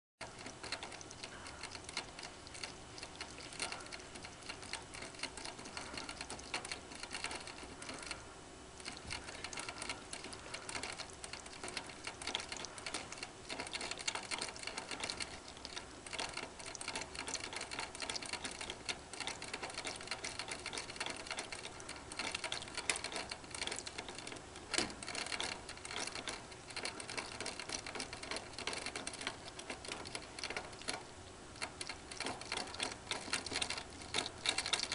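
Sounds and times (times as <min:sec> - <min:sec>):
ferret lapping at water bottle: 0:00.2 - 0:34.9.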